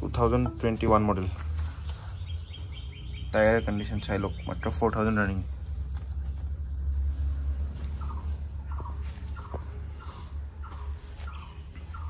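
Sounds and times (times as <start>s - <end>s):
bird chirping: 0.0s - 12.0s
passing traffic rumble: 0.0s - 12.0s.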